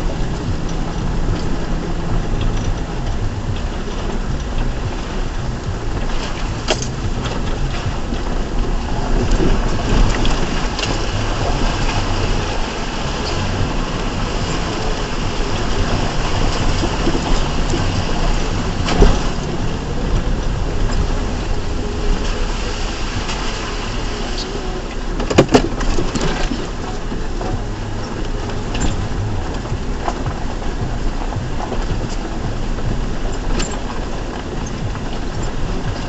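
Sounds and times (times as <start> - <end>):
body and suspension rattles: 0.0 - 36.0
truck engine running: 0.0 - 36.0
tyre and terrain noise: 0.0 - 36.0.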